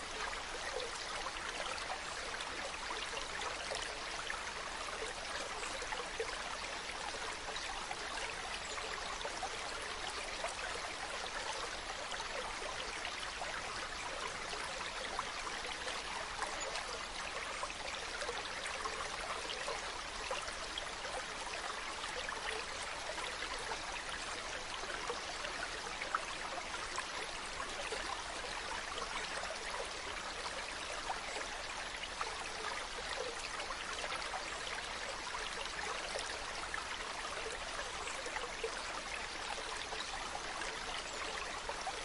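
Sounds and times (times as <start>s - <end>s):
stream running over rocks: 0.0s - 42.0s.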